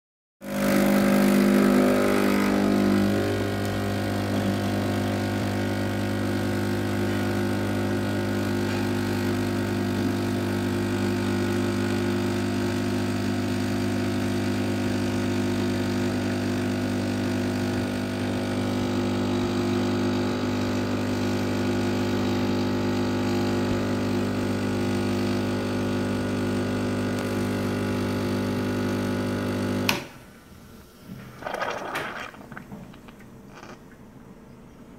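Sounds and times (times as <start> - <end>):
espresso machine pump humming: 0.5 - 29.9.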